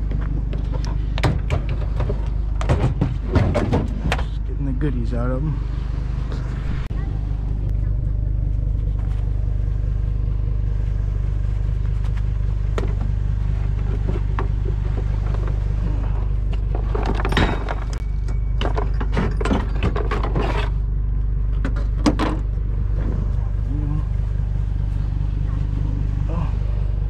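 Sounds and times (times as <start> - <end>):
pickup truck engine idling: 0.0 - 27.0.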